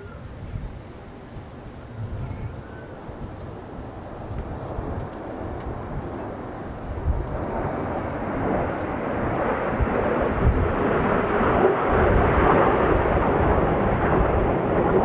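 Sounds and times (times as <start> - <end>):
jet aircraft noise: 0.0 - 15.0
wind buffeting microphone: 0.0 - 15.0.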